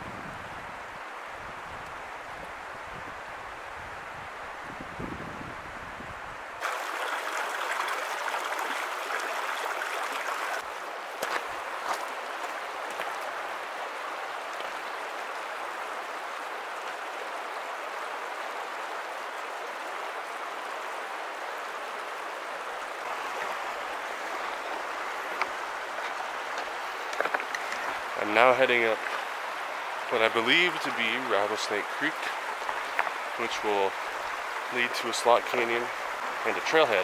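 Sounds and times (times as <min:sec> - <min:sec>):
creek water rushing over stones: 0:06.6 - 0:37.0.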